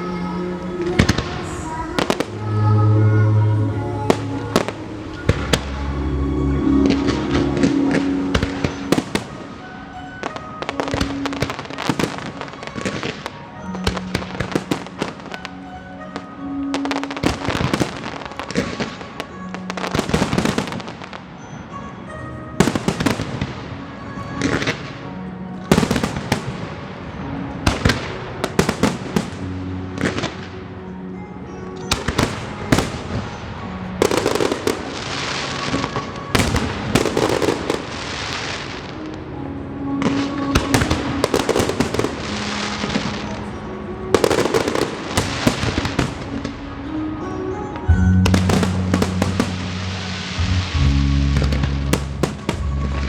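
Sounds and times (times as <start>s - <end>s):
music with held notes: 0.0s - 53.0s
fireworks bursting and crackling: 0.8s - 2.6s, 4.0s - 6.0s, 6.8s - 15.6s, 16.7s - 21.6s, 22.6s - 25.0s, 25.6s - 30.6s, 31.8s - 39.1s, 40.0s - 53.0s.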